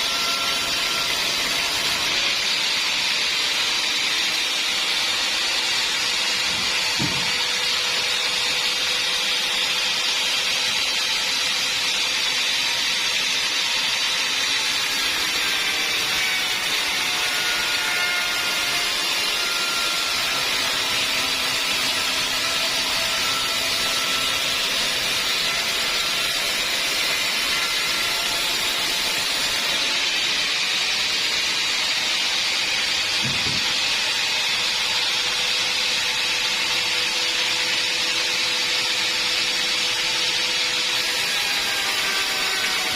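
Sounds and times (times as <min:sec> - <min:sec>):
sawmill saw hissing: 0:00.0 - 0:42.9.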